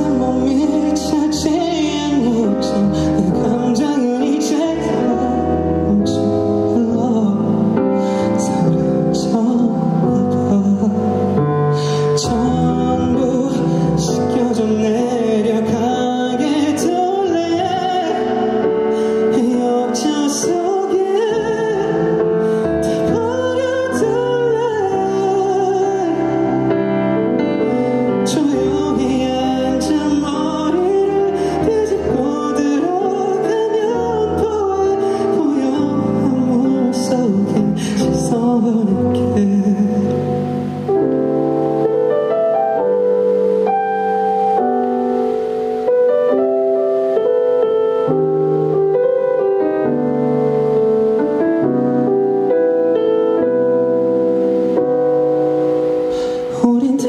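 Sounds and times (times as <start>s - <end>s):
person singing into microphone: 0.0s - 42.8s, 47.0s - 57.0s.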